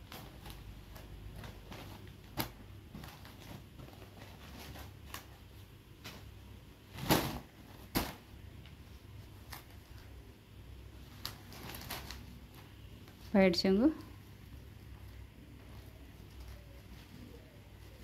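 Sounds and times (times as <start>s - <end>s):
cloth rustling: 0.0s - 10.2s, 10.9s - 13.4s, 14.0s - 18.0s.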